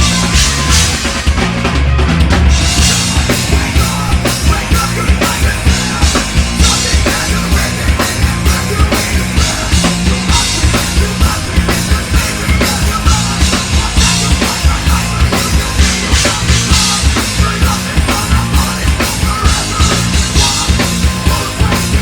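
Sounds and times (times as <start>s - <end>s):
heavy metal band playing live: 0.0s - 22.0s.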